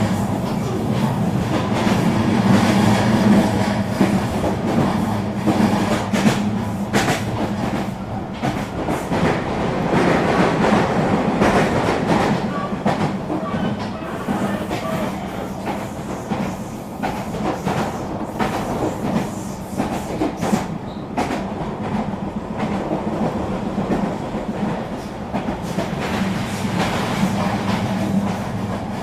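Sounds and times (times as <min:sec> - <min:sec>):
train running rumble: 0:00.0 - 0:29.0.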